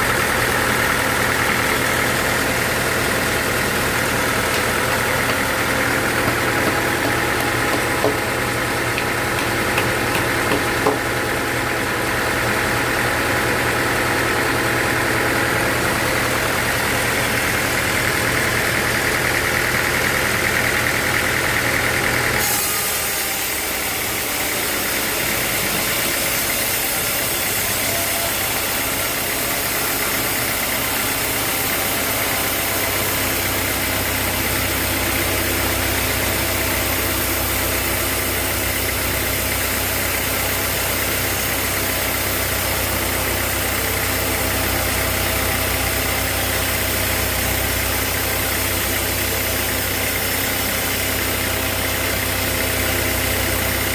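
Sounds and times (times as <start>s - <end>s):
sawmill machinery humming: 0.0s - 53.9s.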